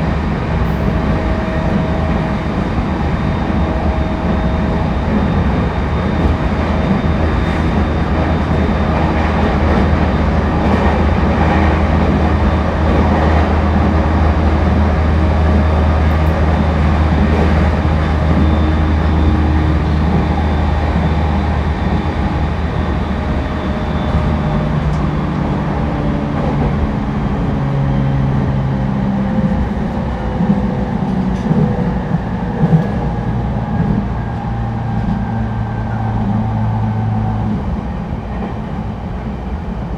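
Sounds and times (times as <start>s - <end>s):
train interior rumble: 0.0s - 39.9s.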